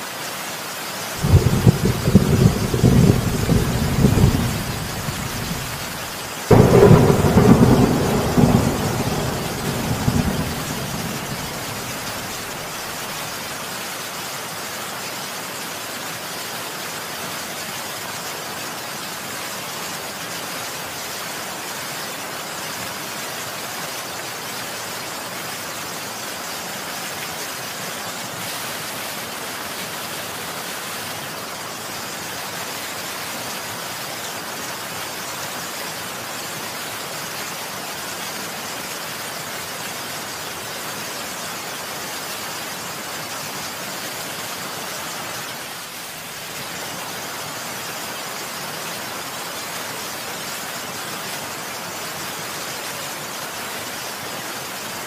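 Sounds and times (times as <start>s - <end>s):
steady heavy rain: 0.0s - 55.0s.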